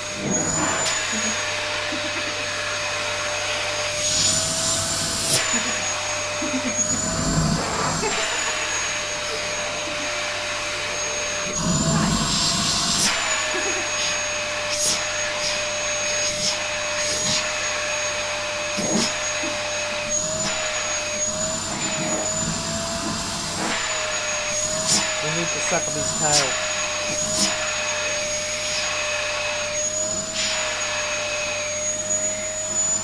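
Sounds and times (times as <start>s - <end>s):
vacuum cleaner motor whine: 0.0s - 33.0s.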